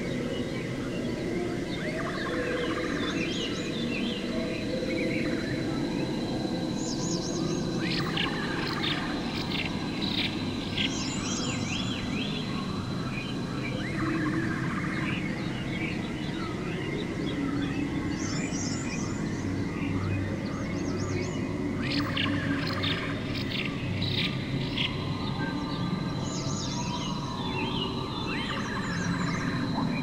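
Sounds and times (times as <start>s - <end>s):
birds chirping and trilling: 0.0s - 30.0s
high insect whine: 0.0s - 30.0s.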